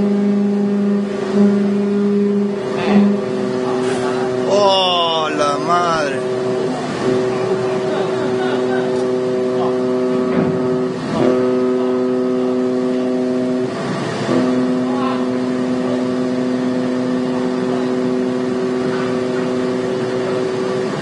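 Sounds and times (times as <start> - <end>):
ship's horn blast: 0.0 - 21.0.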